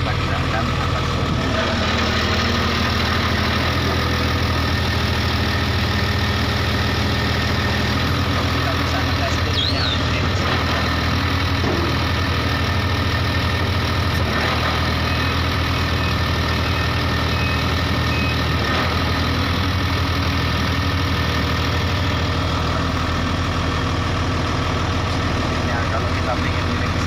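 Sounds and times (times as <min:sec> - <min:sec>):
bulldozer diesel engine idling: 0:00.0 - 0:27.0.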